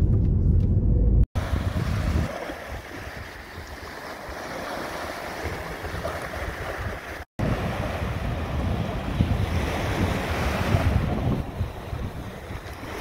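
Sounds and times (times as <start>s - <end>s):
wind rumbling on microphone: 0.0s - 13.0s
small waves washing on beach: 1.4s - 13.0s.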